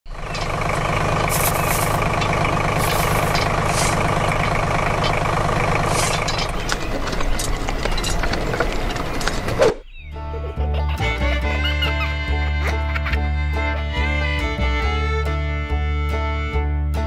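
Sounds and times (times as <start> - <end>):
diesel engine idling: 0.1 - 9.6, 10.2 - 16.6.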